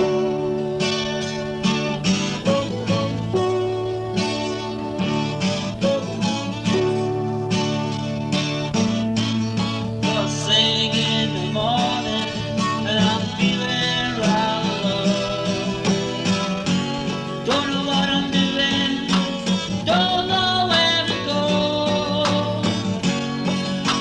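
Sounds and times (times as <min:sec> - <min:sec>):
guitar band playing: 0:00.0 - 0:24.0.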